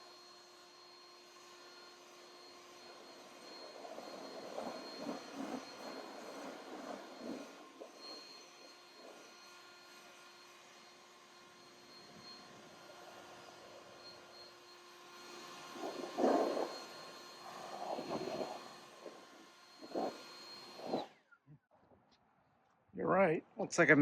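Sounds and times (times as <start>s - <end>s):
leaf blower running: 0.0s - 21.1s.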